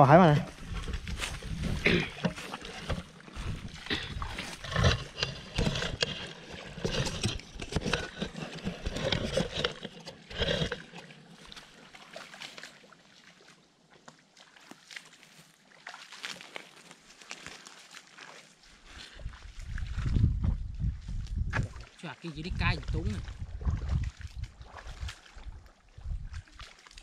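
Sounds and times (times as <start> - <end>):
splashing in muddy water: 0.1 - 27.0.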